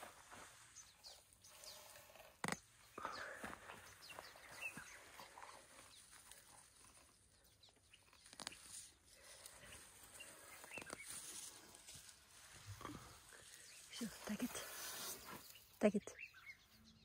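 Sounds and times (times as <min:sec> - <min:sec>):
faint rustling of grass: 0:00.0 - 0:15.9.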